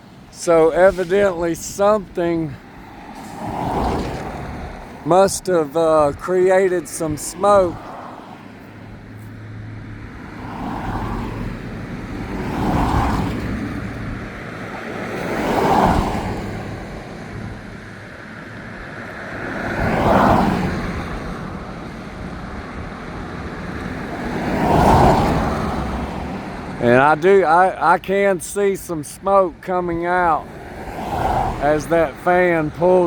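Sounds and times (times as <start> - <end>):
highway traffic passing: 0.0 - 33.0.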